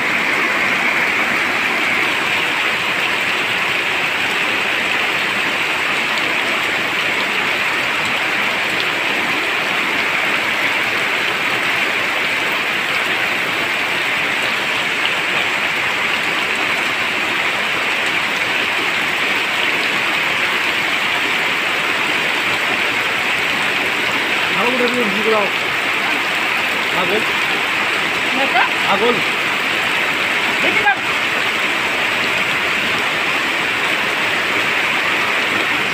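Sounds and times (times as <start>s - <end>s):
rain splashing into standing water: 0.0s - 35.9s.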